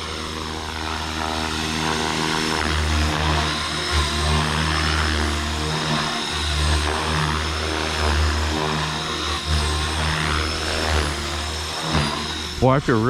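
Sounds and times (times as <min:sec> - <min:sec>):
rc helicopter motor whine: 0:00.0 - 0:13.0
rotor throb: 0:00.0 - 0:13.0.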